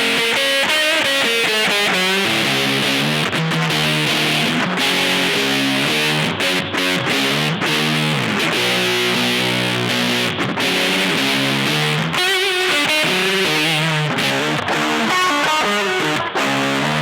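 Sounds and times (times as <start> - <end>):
distorted electric guitar riffing: 0.0 - 17.0.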